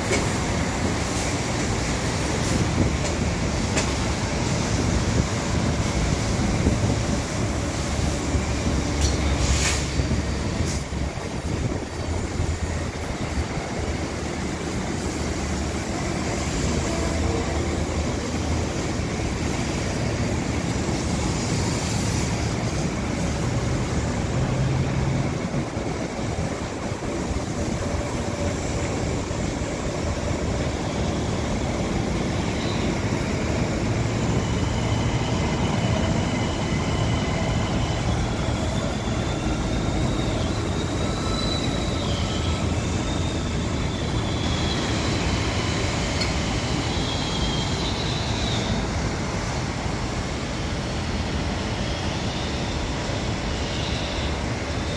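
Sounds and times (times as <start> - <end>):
train rumbling past: 0.0 - 54.9
train wheels squealing: 0.0 - 54.9.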